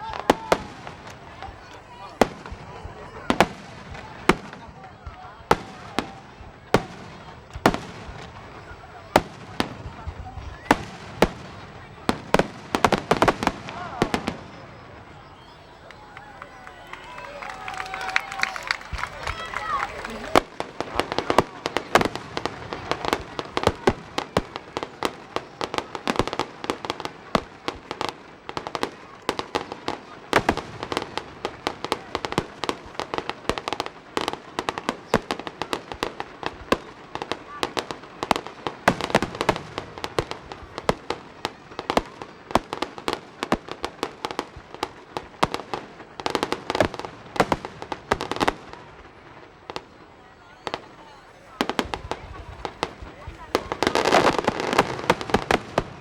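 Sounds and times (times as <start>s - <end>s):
fireworks bangs and cracks: 0.0s - 56.0s.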